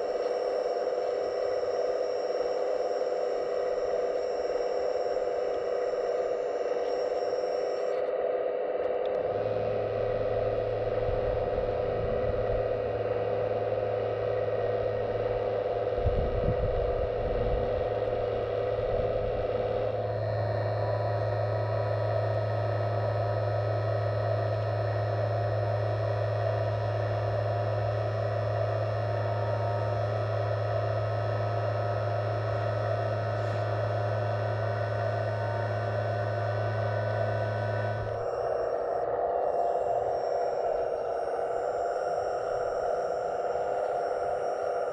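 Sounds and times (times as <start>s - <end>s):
pump motor hum and whine: 0.0s - 44.9s.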